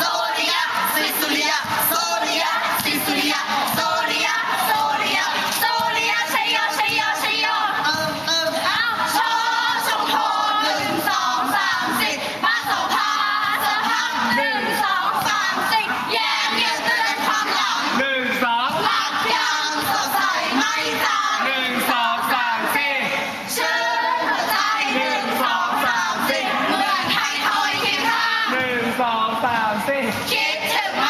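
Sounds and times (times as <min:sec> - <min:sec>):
group of young voices singing: 0:00.0 - 0:31.0.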